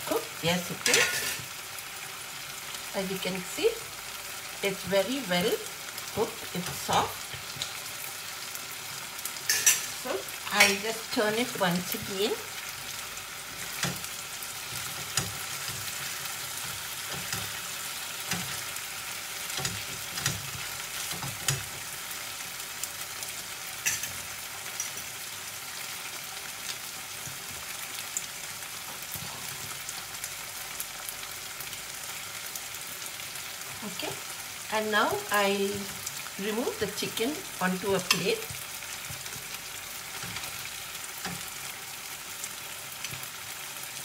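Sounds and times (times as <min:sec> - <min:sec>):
chicken and onions sizzling in a pan: 0:00.0 - 0:44.0.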